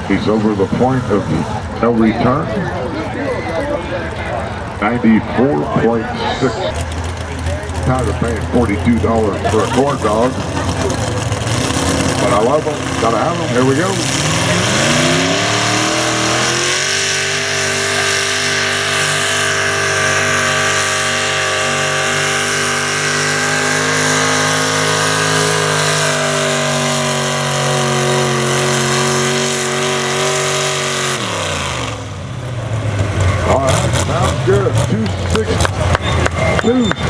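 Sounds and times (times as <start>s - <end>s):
truck engine revving under load: 0.0s - 37.0s.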